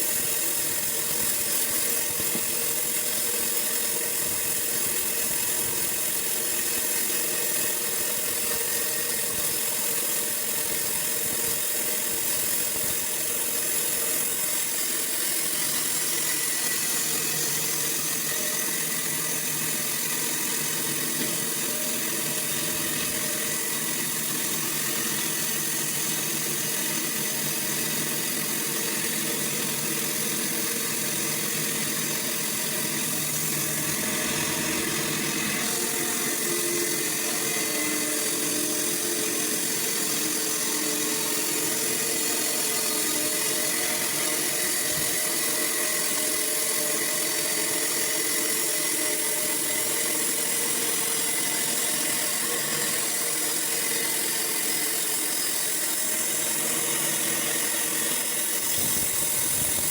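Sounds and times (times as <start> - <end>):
sawmill machine running: 0.0 - 59.9.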